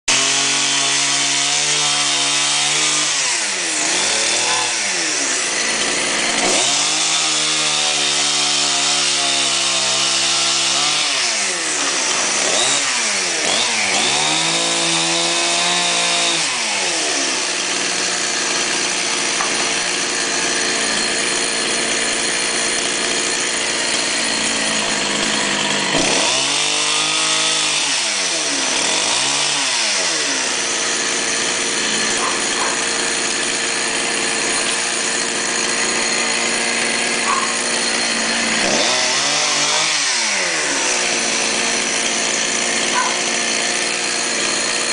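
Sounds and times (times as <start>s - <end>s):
chainsaw revving: 0.1s - 44.9s.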